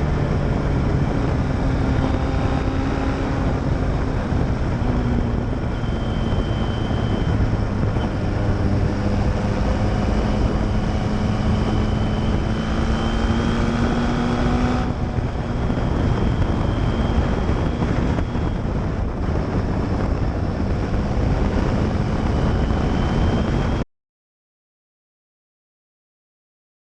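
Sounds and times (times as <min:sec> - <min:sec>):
motorcycle engine: 0:00.0 - 0:23.8
wind buffeting microphone: 0:00.0 - 0:23.8.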